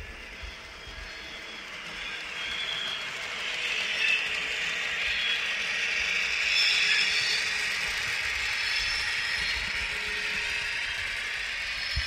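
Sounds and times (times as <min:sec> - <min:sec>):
model train wheels rattling: 0:00.0 - 0:12.0.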